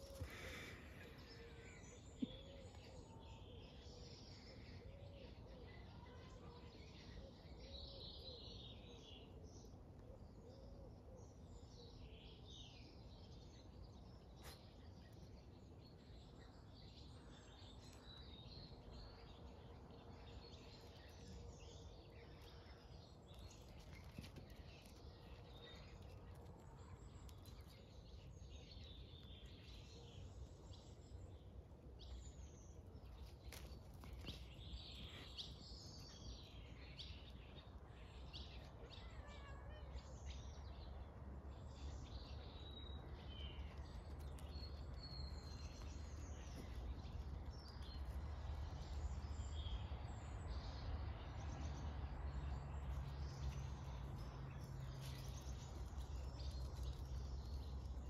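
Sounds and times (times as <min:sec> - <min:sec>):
birds chirping and warbling: 0:00.0 - 0:58.0.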